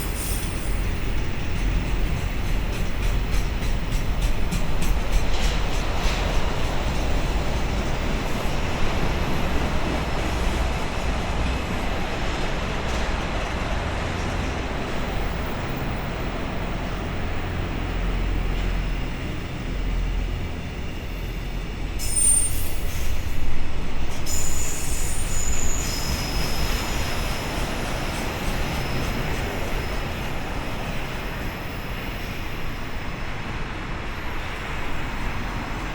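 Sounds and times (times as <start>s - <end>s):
freight train wagons rumbling: 0.0s - 35.9s
train wheels squealing: 0.0s - 35.9s.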